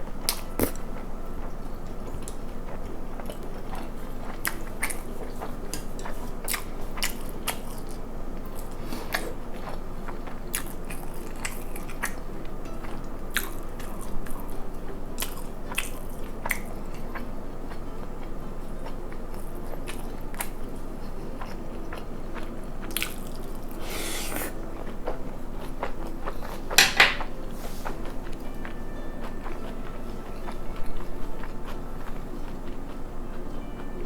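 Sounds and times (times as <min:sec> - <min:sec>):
crunchy chewing and biting: 0:00.2 - 0:34.0.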